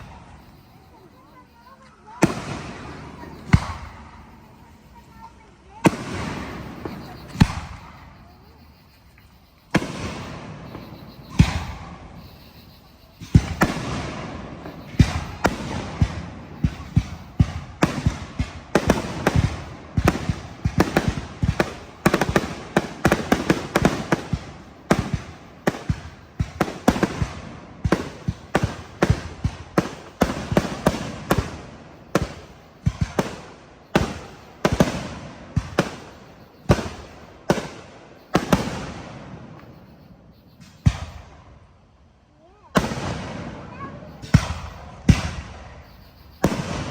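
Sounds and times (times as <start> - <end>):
fireworks bursting with echo: 0.0 - 46.9.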